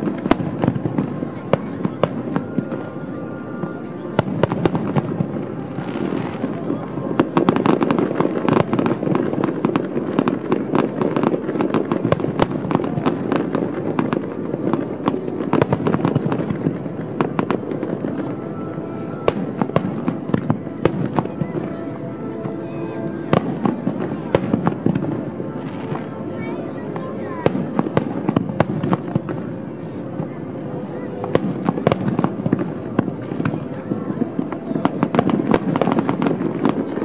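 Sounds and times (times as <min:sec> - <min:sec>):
fireworks booming: 0:00.0 - 0:37.0
fireworks crackling pops: 0:00.0 - 0:37.0.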